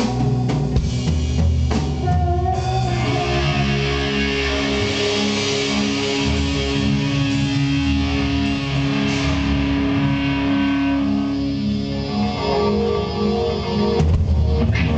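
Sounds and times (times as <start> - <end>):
bass guitar: 0.0 - 14.9
electric guitar: 0.0 - 14.9
held keyboard notes: 0.0 - 14.9
live rock band: 0.0 - 14.9.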